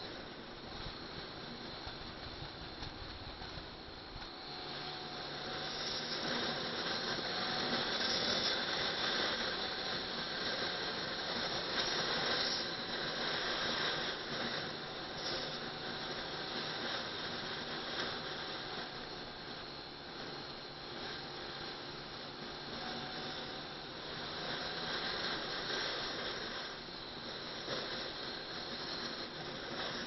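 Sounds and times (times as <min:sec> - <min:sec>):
faint engine drone: 0:00.0 - 0:30.0.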